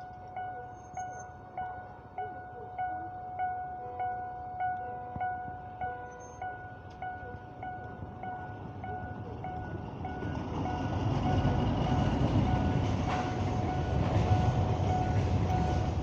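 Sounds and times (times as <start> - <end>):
level crossing warning bell: 0.0 - 16.0
train rumble: 0.0 - 16.0.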